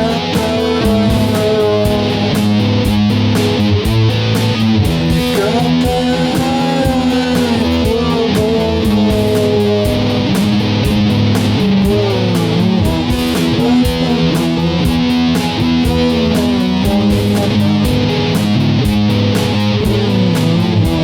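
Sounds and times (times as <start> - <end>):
rock music: 0.0 - 21.0.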